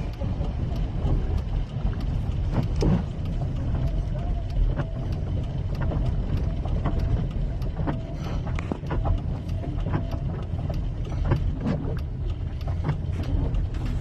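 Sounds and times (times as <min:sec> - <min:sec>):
sharp clicks and knocks: 0:00.0 - 0:14.0
vehicle low rumble: 0:00.0 - 0:14.0.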